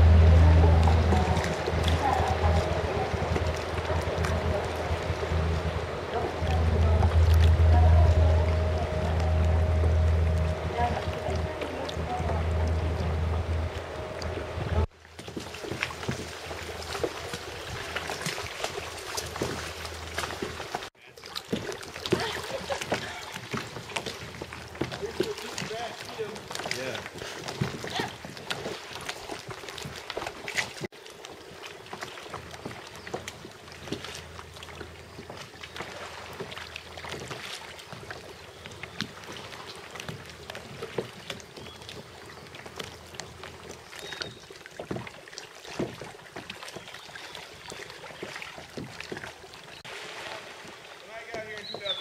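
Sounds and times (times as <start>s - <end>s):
paddles splashing: 0.0s - 52.0s
water lapping against hulls: 0.0s - 52.0s.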